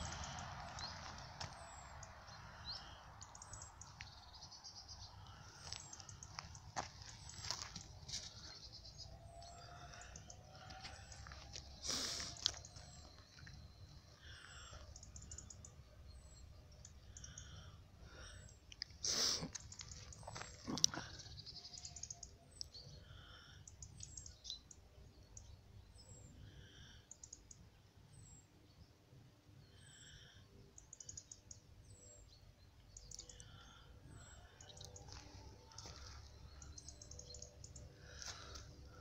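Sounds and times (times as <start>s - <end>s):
outdoor background noise: 0.0s - 39.0s
small birds chirping: 0.0s - 39.0s.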